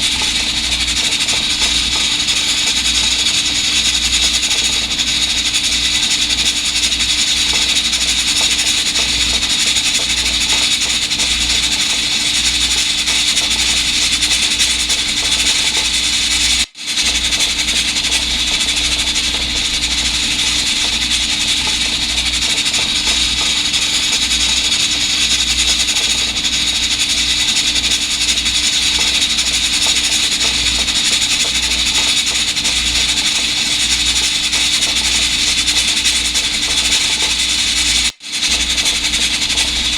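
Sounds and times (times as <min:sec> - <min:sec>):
rubbing and scrubbing on appliance: 0:00.0 - 0:39.9.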